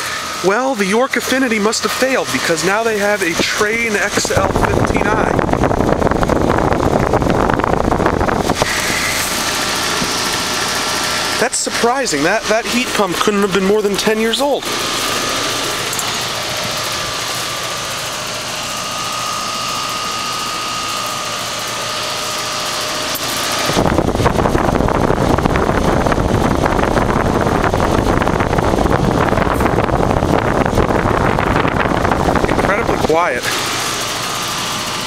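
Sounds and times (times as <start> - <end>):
heat pump fan and compressor: 0.0 - 35.0.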